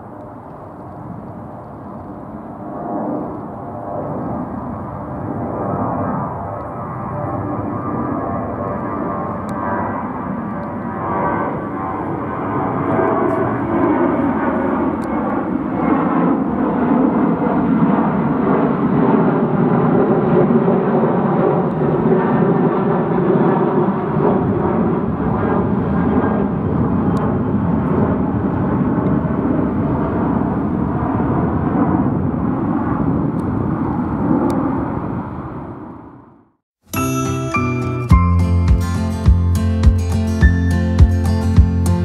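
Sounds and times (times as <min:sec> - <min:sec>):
jet engine roar: 0:00.0 - 0:36.6.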